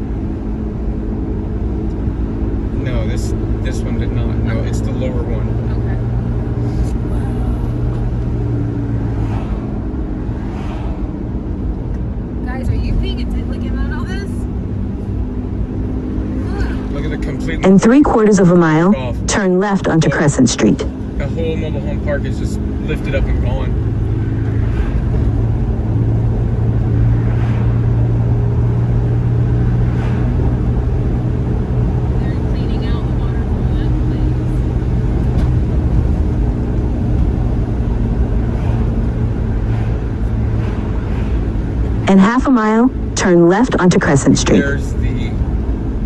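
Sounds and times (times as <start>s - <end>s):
engine and road rumble: 0.0s - 46.0s
low hum: 0.0s - 46.0s.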